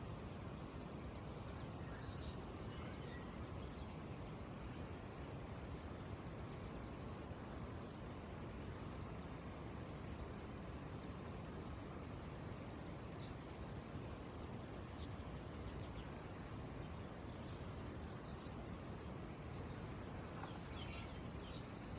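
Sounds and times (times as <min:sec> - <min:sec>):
crickets chirring: 0:00.0 - 0:21.9.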